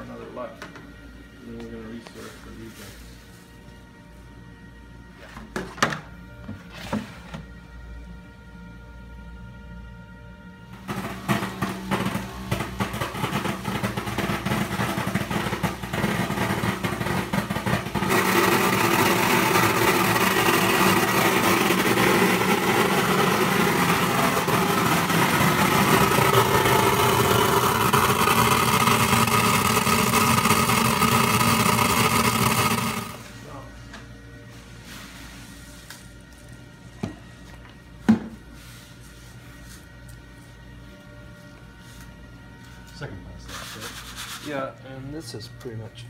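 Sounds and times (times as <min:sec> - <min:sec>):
machine humming and whining: 0:06.1 - 0:43.5.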